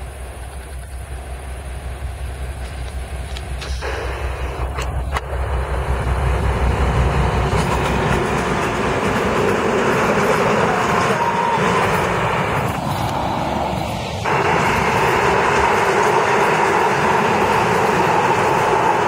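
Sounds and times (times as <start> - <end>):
diesel locomotive engine rumble: 0.0 - 19.0
freight wagons rolling on rails: 0.0 - 19.0.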